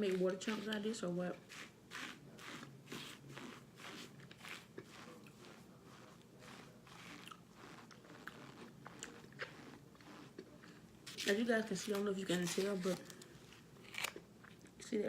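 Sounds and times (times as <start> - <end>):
crunching and chewing: 0.0 - 14.8.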